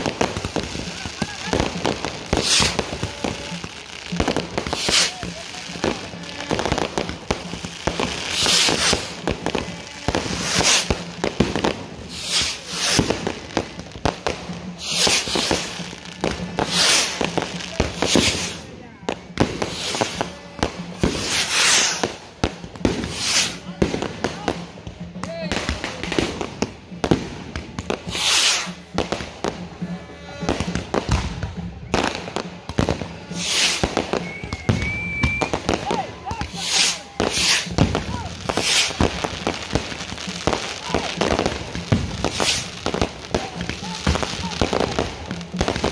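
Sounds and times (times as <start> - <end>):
fireworks bangs and pops: 0.0 - 45.9
fireworks hissing crackle: 0.0 - 45.9.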